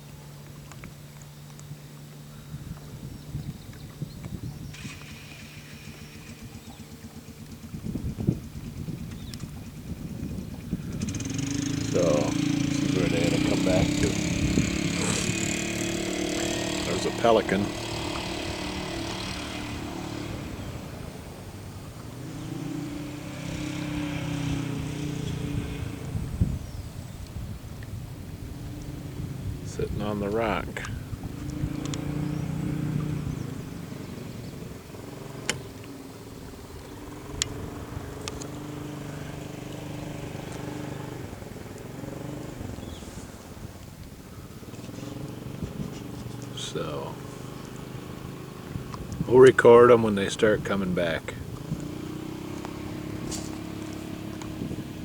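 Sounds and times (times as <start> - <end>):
distant engine humming: 4.4 - 55.0.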